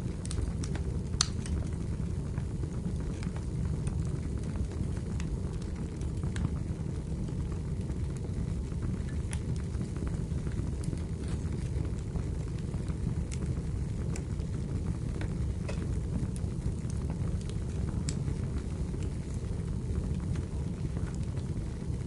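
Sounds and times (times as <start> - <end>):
burning logs crackling and popping: 0.0 - 22.0
fire low rumble: 0.0 - 22.0.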